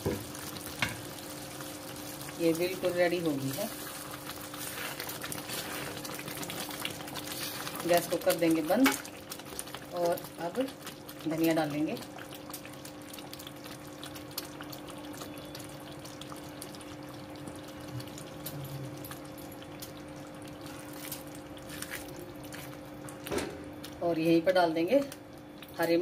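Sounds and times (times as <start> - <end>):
thick gravy bubbling and popping: 0.0 - 26.0.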